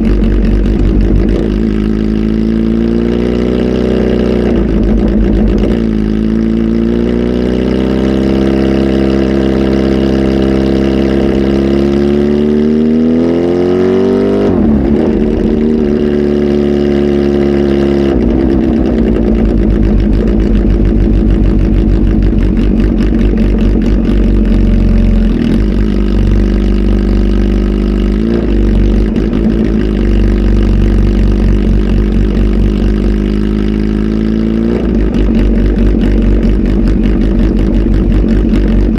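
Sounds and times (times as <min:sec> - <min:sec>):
motorcycle engine running under load: 0:00.0 - 0:38.9.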